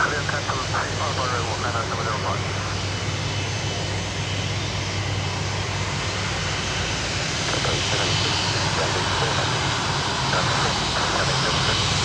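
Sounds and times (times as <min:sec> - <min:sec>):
airliner engines roaring: 0:00.0 - 0:12.0.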